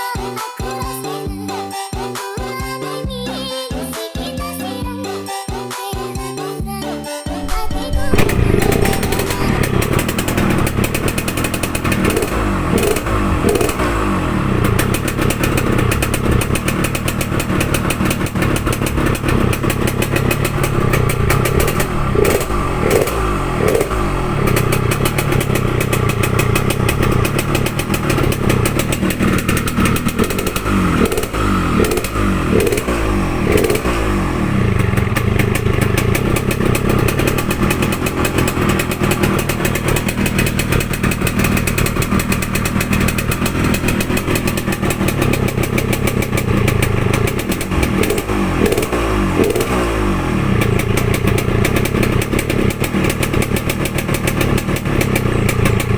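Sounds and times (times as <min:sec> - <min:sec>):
motorcycle engine idling: 0:07.4 - 0:55.9.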